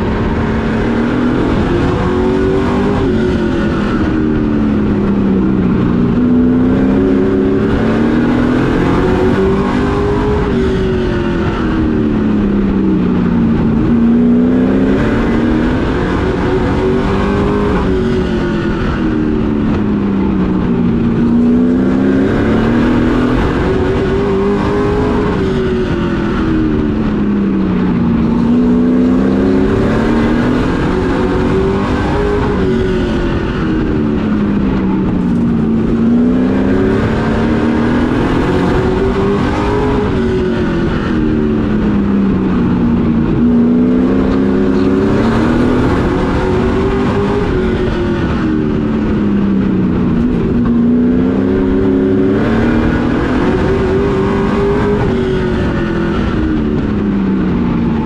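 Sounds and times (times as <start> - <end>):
race truck engine revving: 0.0 - 58.0.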